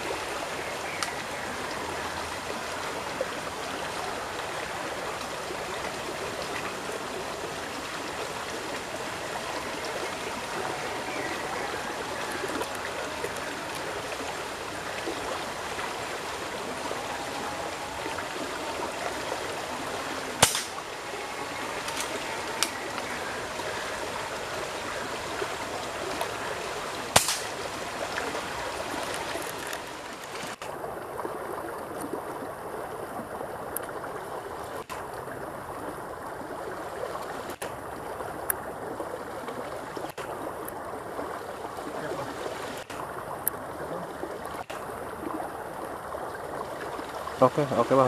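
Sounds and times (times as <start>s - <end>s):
flowing river water: 0.0s - 48.0s.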